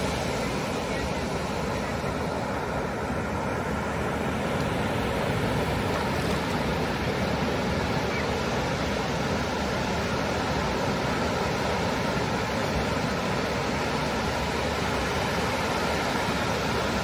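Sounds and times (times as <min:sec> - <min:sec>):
foamy water rushing up beach: 0:00.0 - 0:17.0
waves breaking: 0:00.0 - 0:17.0.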